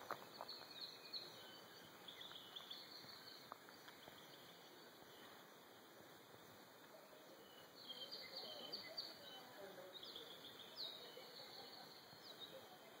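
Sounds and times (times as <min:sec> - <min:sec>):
birds chirping and trilling: 0:00.0 - 0:06.4, 0:07.0 - 0:13.0
background hiss: 0:00.0 - 0:13.0.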